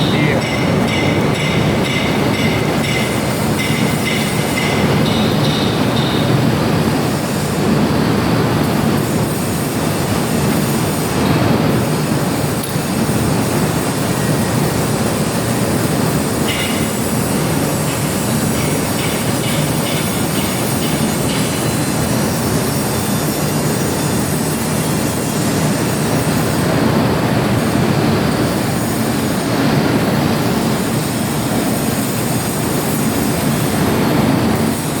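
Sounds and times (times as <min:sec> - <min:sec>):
metal lathe machining pipe: 0:00.0 - 0:35.0.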